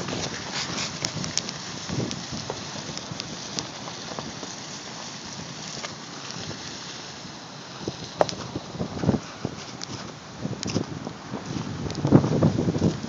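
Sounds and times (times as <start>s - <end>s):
footsteps on gravel: 0.0s - 6.8s, 8.0s - 13.0s
wind buffeting microphone: 0.0s - 13.0s.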